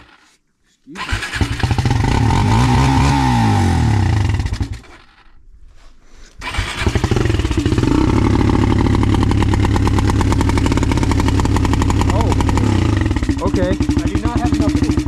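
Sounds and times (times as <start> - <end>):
off-road vehicle engine revving: 1.0 - 5.3, 6.4 - 15.0.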